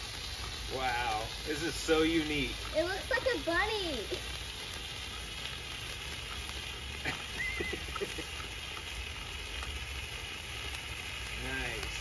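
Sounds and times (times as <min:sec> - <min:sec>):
hand fountain firework hissing: 0:00.0 - 0:12.0.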